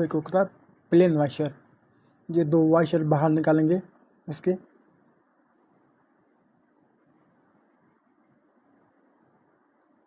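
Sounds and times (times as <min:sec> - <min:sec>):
cricket chirring: 0:00.0 - 0:10.0.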